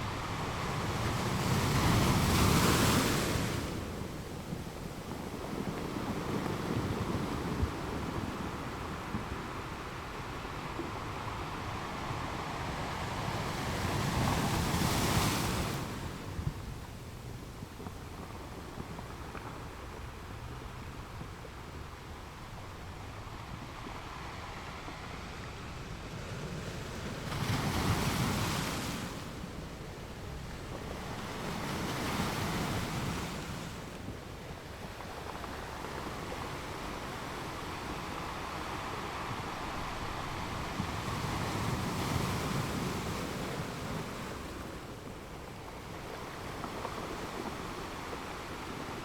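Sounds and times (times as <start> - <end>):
ocean waves breaking on beach: 0.0 - 17.4, 21.7 - 49.0.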